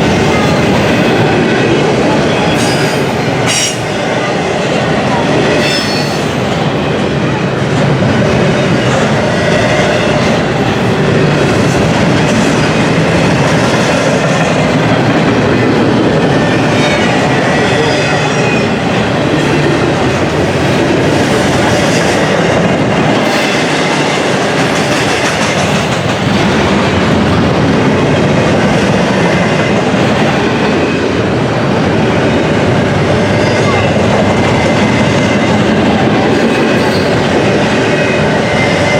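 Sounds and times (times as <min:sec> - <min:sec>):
clickety-clack over rail joints: 0:00.0 - 0:38.9
freight train wheels rumbling: 0:00.0 - 0:38.9.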